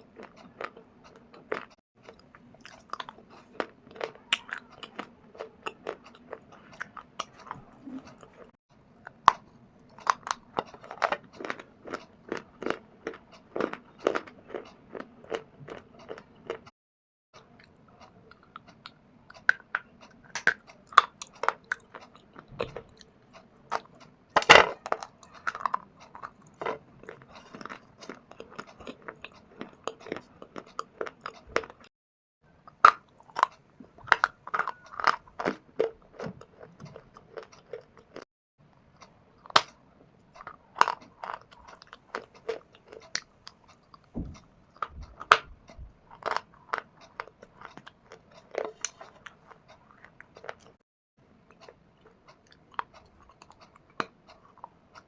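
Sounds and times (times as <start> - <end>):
chewing brittle stone: 0.0 - 16.7, 17.4 - 31.9, 32.7 - 38.3, 39.0 - 50.8, 51.5 - 55.0.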